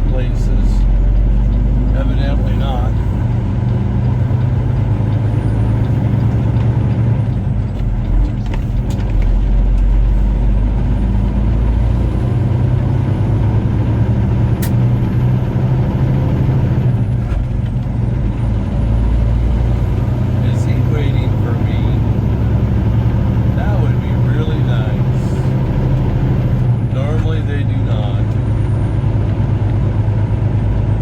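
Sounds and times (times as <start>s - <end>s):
road noise: 0.0s - 31.0s
truck diesel engine running: 0.0s - 31.0s.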